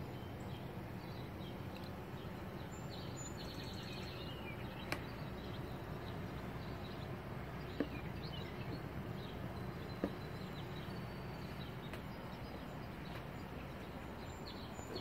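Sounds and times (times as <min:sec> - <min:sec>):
low background noise: 0:00.0 - 0:15.0
small bird chirps: 0:00.0 - 0:15.0.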